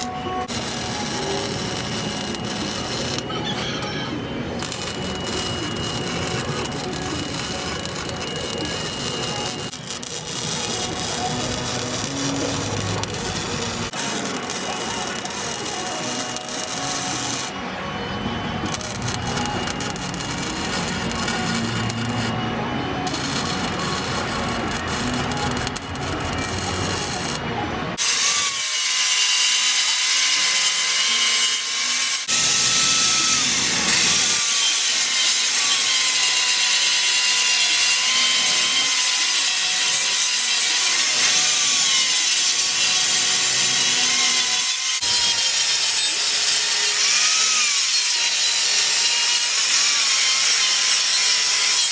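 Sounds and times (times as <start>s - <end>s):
angle grinder grinding metal: 0.0s - 17.6s, 18.6s - 51.9s.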